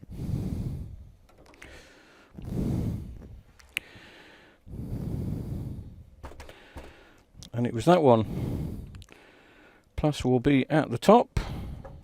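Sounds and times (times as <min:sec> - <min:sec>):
person breathing: 0:00.0 - 0:07.4, 0:08.2 - 0:09.9, 0:11.4 - 0:12.0.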